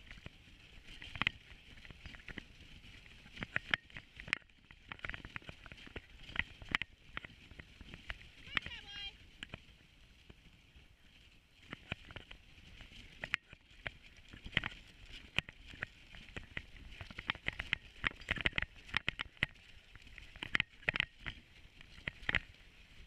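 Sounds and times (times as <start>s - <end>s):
sled gear clicking and knocking: 0.0s - 23.0s.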